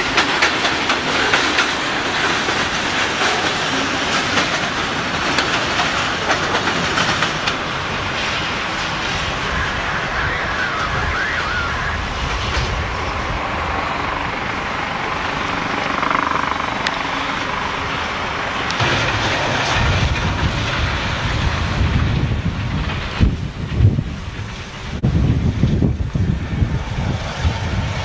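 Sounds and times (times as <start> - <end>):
train wheels on track: 0.0 - 28.0
wind rumble on microphone: 0.0 - 28.0.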